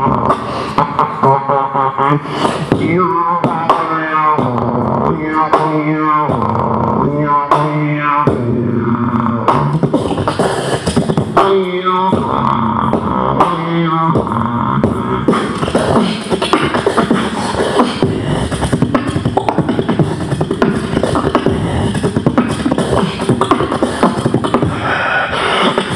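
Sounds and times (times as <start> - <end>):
beatboxing into a microphone: 0.0 - 25.9.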